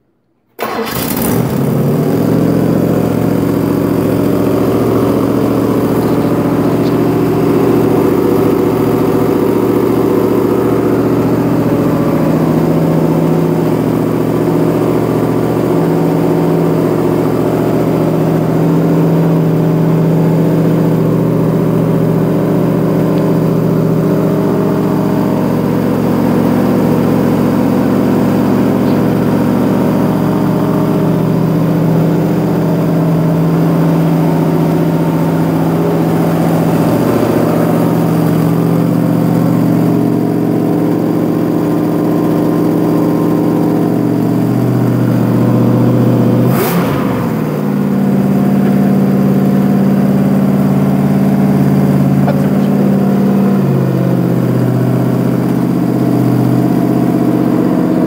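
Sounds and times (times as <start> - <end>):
engine starting and running: 0.0 - 58.0.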